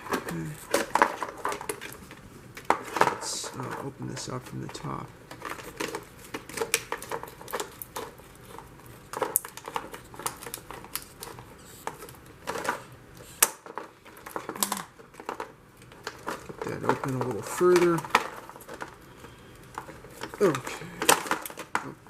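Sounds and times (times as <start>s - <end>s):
plastic packaging crackling: 0.0s - 22.0s.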